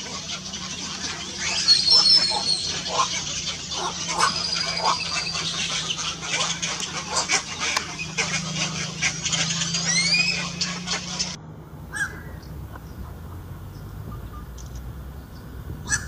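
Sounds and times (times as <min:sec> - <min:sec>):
herons croaking: 0:00.0 - 0:16.0.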